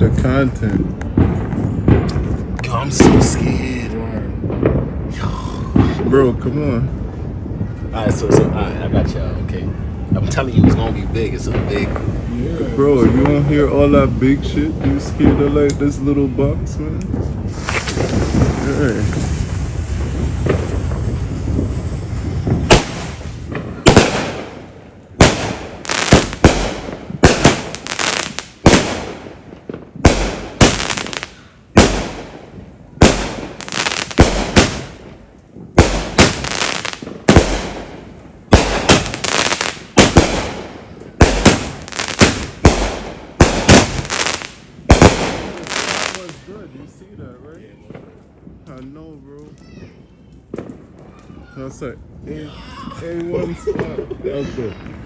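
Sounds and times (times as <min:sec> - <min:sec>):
firework bangs and crackles: 0:00.0 - 0:55.0.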